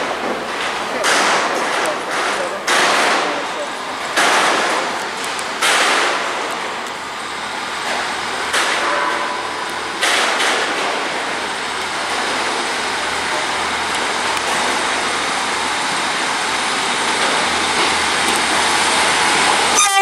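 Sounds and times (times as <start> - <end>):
train air hiss: 3.0 - 20.0.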